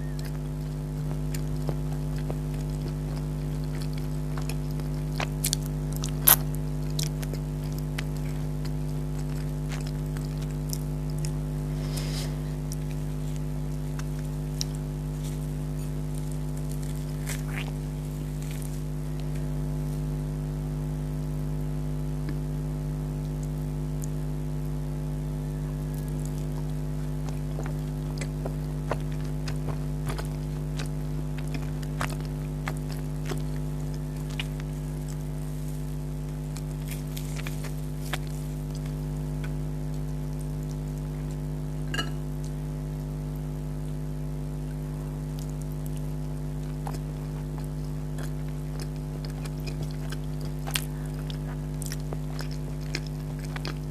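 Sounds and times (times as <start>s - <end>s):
mouth chewing sounds: 0.0s - 20.3s, 25.1s - 42.7s, 44.7s - 53.9s
low electrical hum: 0.0s - 53.9s.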